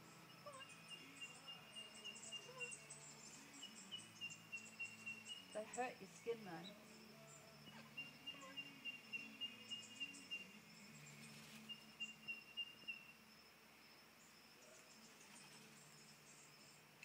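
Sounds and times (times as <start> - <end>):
high-pitched insect drone: 0.0 - 16.9.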